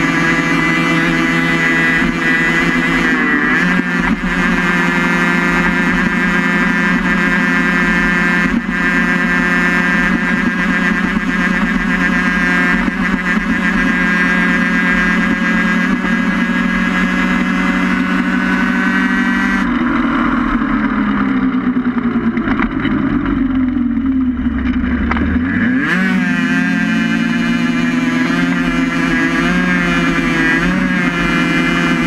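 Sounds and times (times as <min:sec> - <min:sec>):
racing engine revving: 0:00.0 - 0:32.0.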